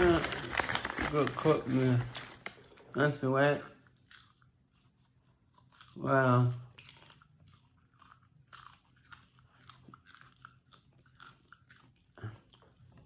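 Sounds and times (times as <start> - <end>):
person chewing popcorn: 0.0 - 13.0.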